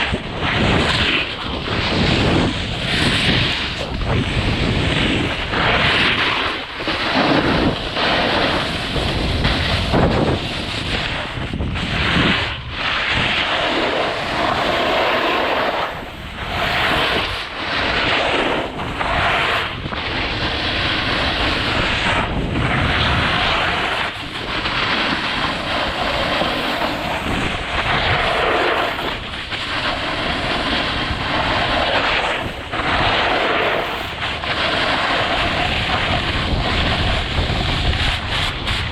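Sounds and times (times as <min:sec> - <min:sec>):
skis scraping on snow: 0:00.0 - 0:38.9
wind buffeting microphone: 0:00.0 - 0:38.9.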